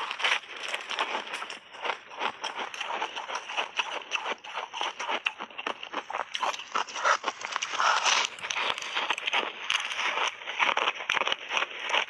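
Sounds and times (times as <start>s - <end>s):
ice crunching between teeth: 0.0s - 12.0s.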